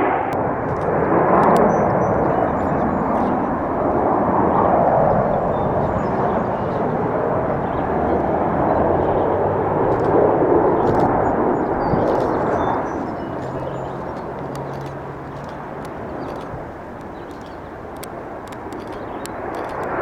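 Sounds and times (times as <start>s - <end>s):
aircraft flying over: 0.0s - 20.0s.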